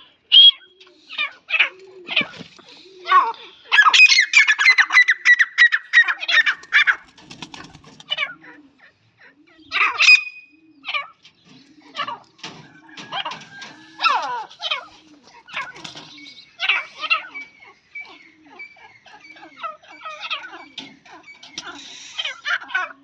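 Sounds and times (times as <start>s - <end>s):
francolins calling: 0.0s - 7.1s, 8.0s - 23.0s.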